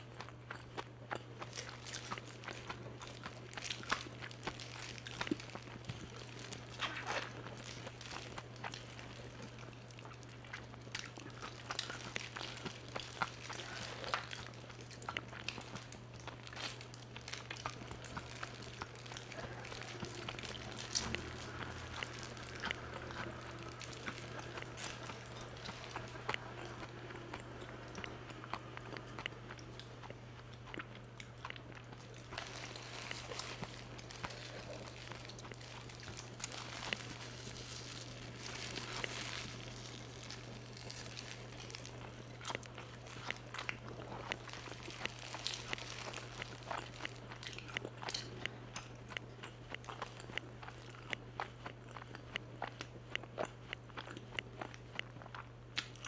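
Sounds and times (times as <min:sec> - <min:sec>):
crunching and chewing fried chicken: 0:00.0 - 0:56.0.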